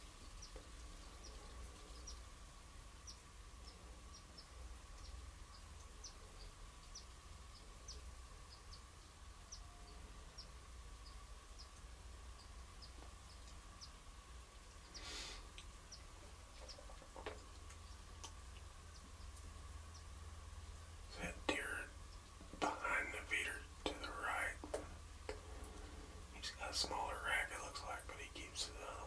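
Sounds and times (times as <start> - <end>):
small bird chirping: 0.0 - 24.8.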